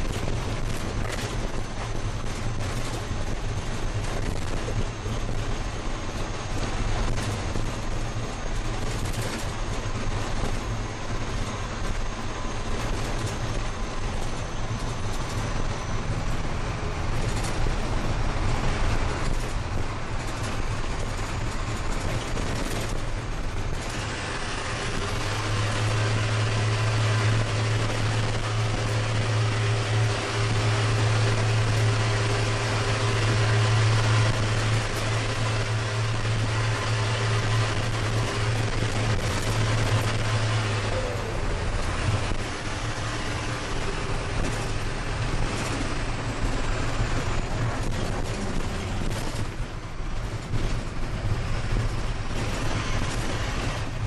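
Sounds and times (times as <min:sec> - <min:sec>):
diesel bus engine drone: 0:00.0 - 0:54.0.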